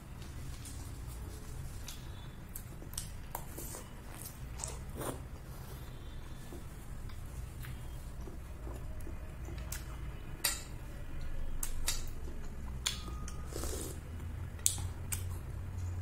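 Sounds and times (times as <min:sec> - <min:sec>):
soft eating sounds: 0:00.0 - 0:16.0.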